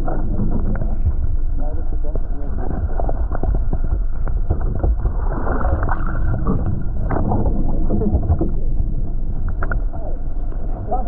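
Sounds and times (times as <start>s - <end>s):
water noise: 0.0s - 11.0s
wind rumble: 0.0s - 11.0s.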